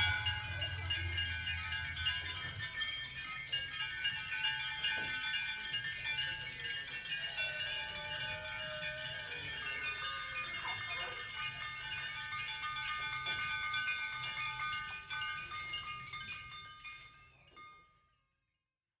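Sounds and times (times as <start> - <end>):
ringing chime tones: 0.0 - 18.3.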